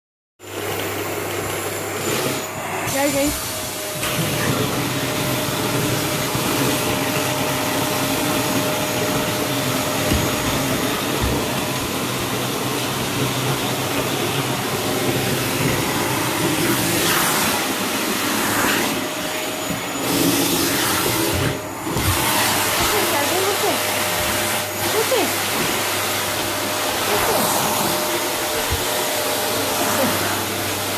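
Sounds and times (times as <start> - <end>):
vacuum cleaner running: 0.4 - 30.9.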